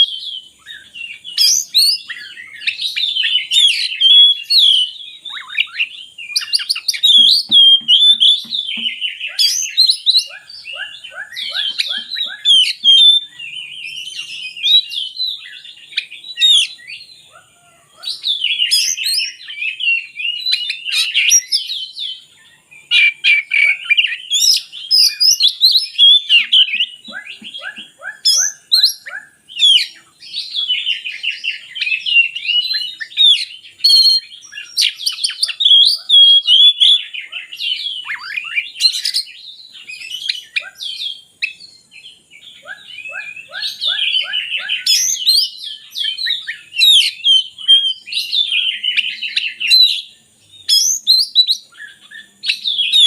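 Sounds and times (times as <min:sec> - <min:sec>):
songbird singing whistles and trills: 0:00.0 - 0:53.0.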